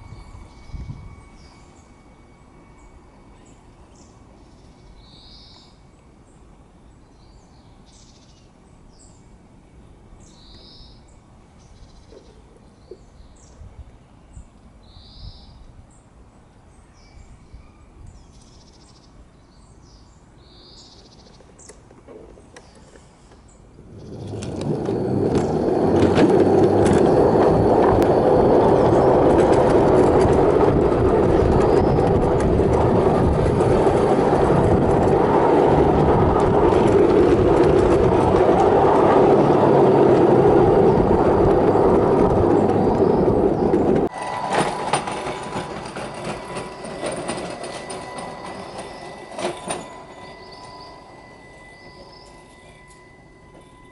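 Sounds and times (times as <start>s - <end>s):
wheels rumbling on rails: 0.0s - 17.4s, 20.7s - 53.9s.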